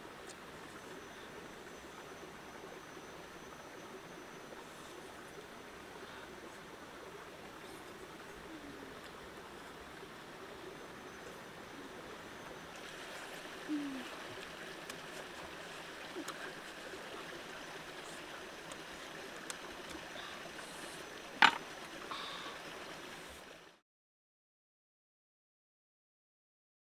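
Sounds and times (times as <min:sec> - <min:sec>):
stream water over rocks: 0:00.0 - 0:23.8.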